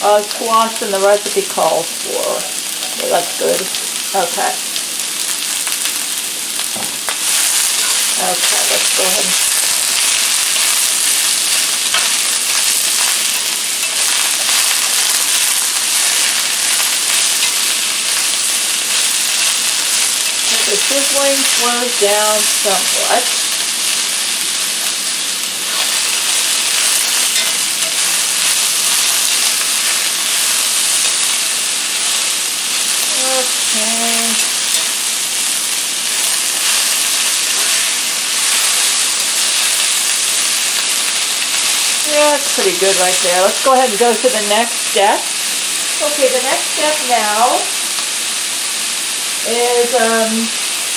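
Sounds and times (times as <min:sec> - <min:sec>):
squash frying in oil: 0:00.0 - 0:50.9.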